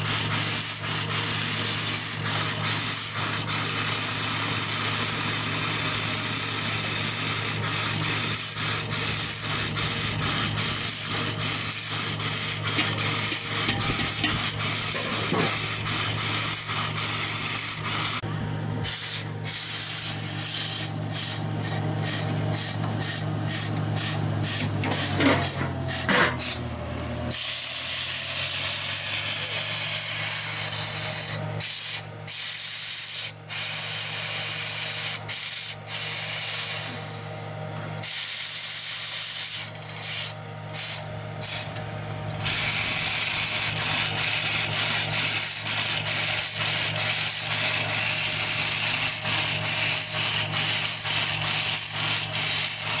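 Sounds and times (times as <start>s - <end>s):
compressed air hissing: 0.0s - 18.2s, 18.8s - 26.7s, 27.3s - 53.0s
low engine drone: 0.0s - 53.0s.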